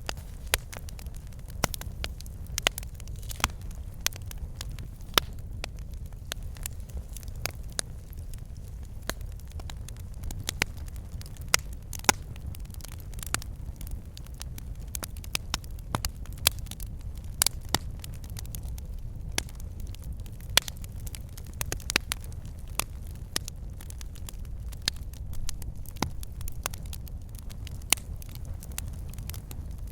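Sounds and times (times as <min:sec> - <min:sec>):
logs crackling and popping: 0:00.0 - 0:29.9
low rumble of flames: 0:00.0 - 0:29.9.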